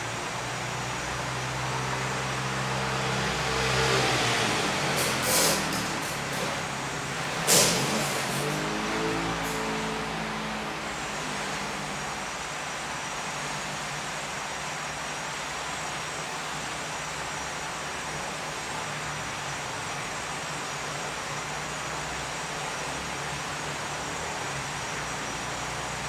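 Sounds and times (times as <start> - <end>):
machine hiss and hum: 0.0 - 26.0.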